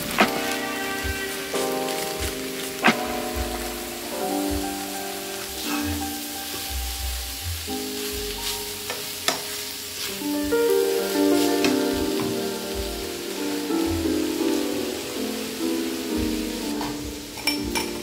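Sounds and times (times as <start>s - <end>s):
background music: 0.0s - 18.0s
filling sizzling in a frying pan: 0.0s - 18.0s.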